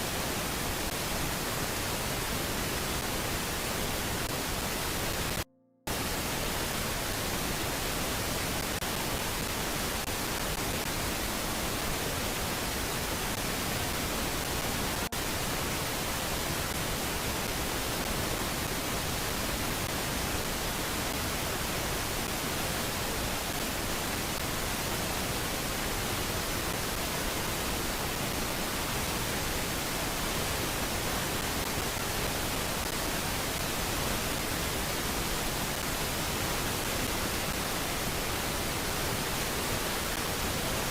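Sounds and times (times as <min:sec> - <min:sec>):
steady static hiss: 0:00.0 - 0:40.9.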